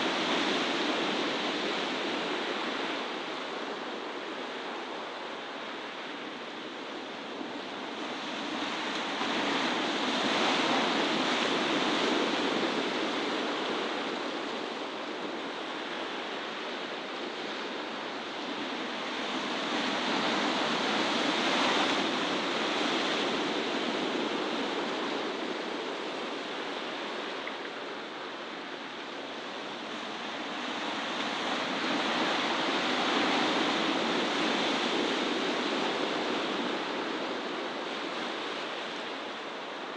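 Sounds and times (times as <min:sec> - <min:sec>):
waves breaking on rocky shore: 0:07.6 - 0:39.9.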